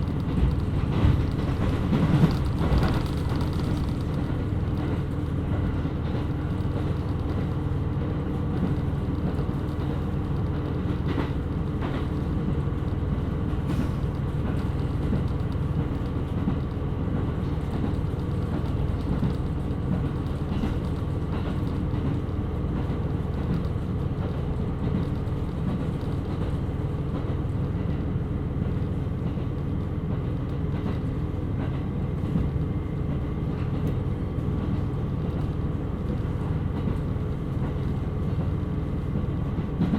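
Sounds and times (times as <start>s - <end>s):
diesel railcar engine drone: 0.0s - 39.9s.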